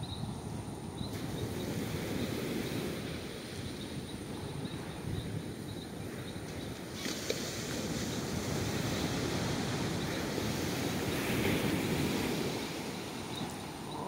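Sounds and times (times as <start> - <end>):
ocean surf washing on beach: 0.0 - 14.0
wind on microphone: 0.0 - 14.0.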